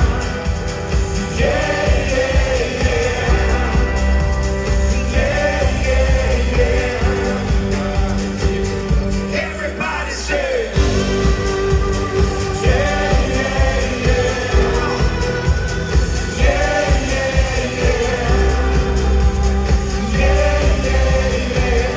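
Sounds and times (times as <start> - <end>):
live rock band playing: 0.0 - 9.4, 10.8 - 21.9
people singing held lines: 0.0 - 21.9.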